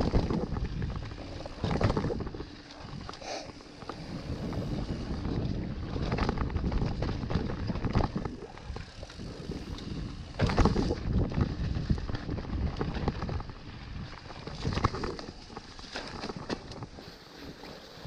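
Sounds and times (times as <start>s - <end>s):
wind buffeting microphone: 0.0s - 17.1s
bike tyres rumbling on dirt: 0.0s - 18.0s.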